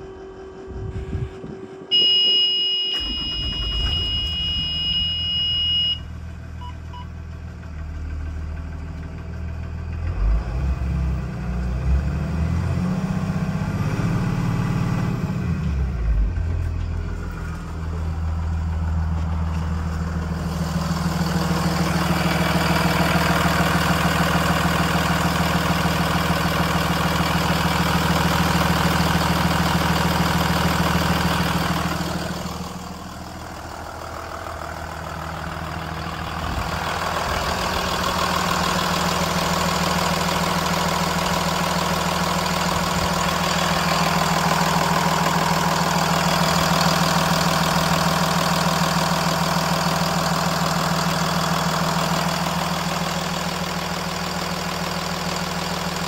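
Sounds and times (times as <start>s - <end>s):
diesel engine idling: 0.0s - 2.2s, 2.9s - 56.0s.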